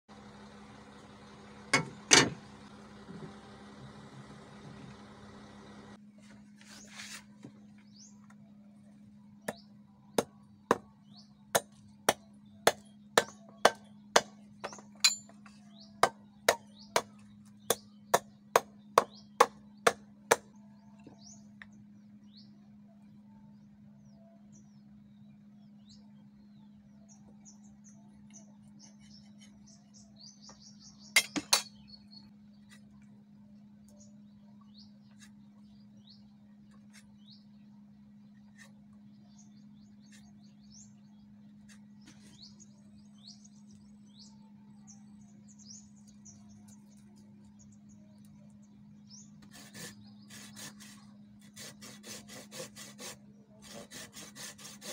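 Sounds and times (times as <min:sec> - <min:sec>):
low hum: 0:00.1 - 0:51.7.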